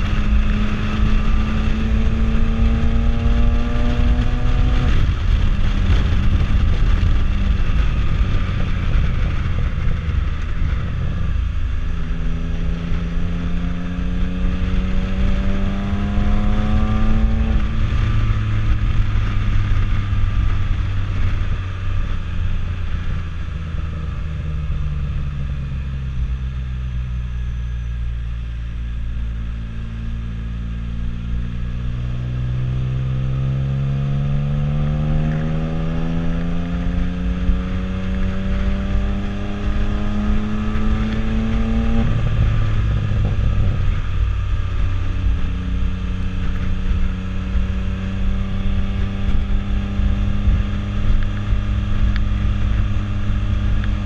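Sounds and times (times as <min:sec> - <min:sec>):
three-cylinder engine running: 0:00.0 - 0:54.0.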